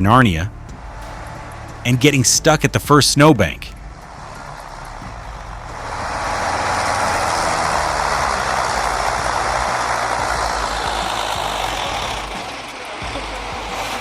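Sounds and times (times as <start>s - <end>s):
steady rushing noise: 0.0s - 14.0s
truck engine running: 0.0s - 14.0s.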